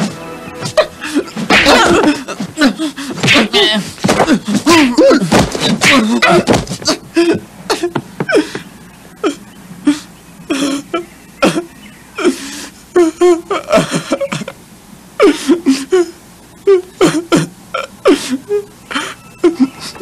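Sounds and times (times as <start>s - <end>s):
man sobbing and crying out: 0.6s - 14.6s, 15.2s - 20.0s.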